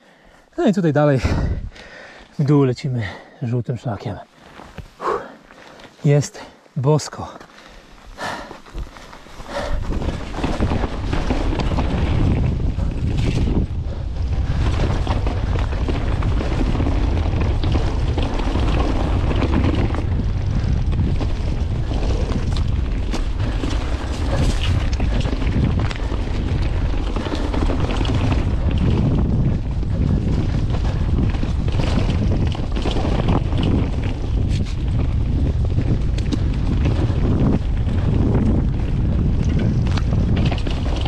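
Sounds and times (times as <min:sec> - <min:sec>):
wind buffeting microphone: 0:01.0 - 0:03.2, 0:07.7 - 0:41.0
bike clicks and rattles: 0:07.2 - 0:41.0
low rumble of tyres: 0:07.7 - 0:41.0.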